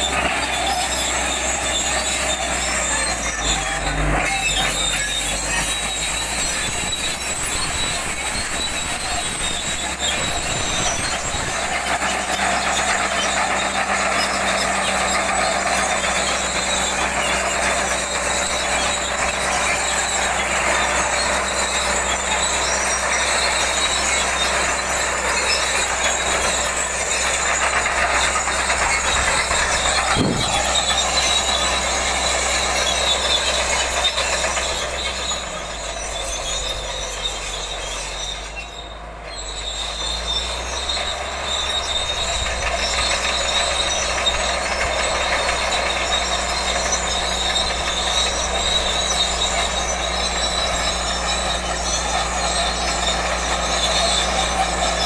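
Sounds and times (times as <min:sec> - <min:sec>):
clanking steel tracks: 0:00.0 - 0:55.0
diesel engine noise: 0:00.0 - 0:55.0
high-pitched squeal: 0:00.0 - 0:55.0.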